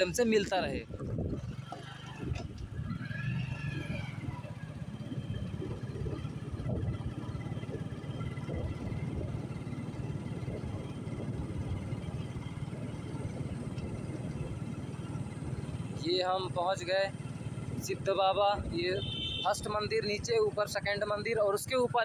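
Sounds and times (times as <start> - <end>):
motorcycle engine rumble: 0.0 - 22.0
wind: 0.0 - 22.0.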